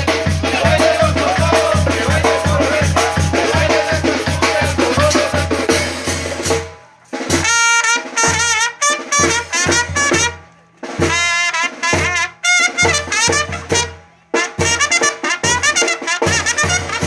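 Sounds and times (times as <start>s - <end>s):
trumpets and saxophones: 0.0s - 6.6s, 7.3s - 17.0s
drum: 0.0s - 17.0s.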